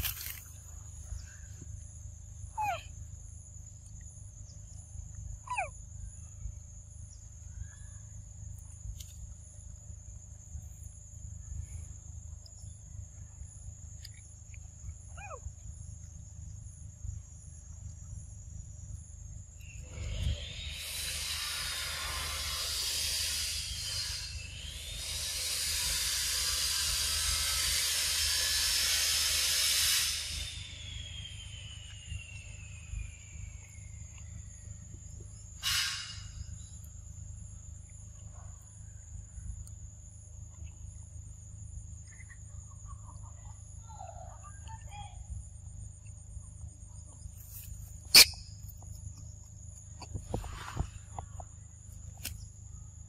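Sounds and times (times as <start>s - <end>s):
insects buzzing: 0.0s - 53.0s
thin high insect tone: 0.0s - 53.0s.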